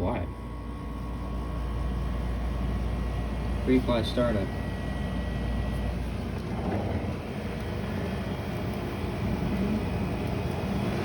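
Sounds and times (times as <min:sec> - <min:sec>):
dehumidifier compressor hum: 0:00.0 - 0:11.0.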